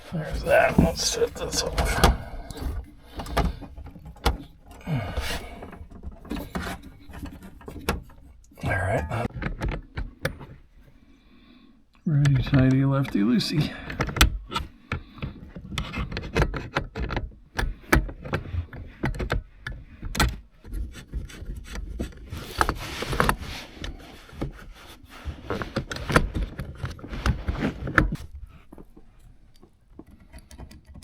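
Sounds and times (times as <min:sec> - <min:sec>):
hands scraping hose connection: 0:00.0 - 0:10.5, 0:15.2 - 0:31.0.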